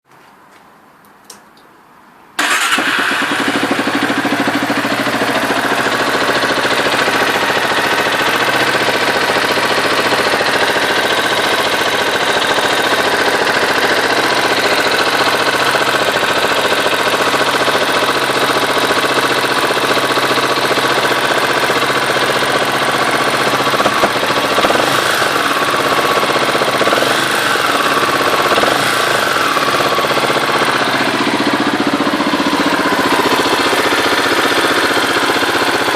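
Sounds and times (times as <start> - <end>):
engine idling: 2.4 - 35.9.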